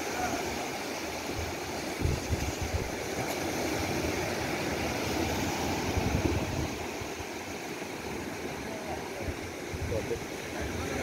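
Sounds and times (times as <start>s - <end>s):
low rumbles of surf: 0.0s - 11.0s
sea surf washing onto beach: 0.0s - 11.0s.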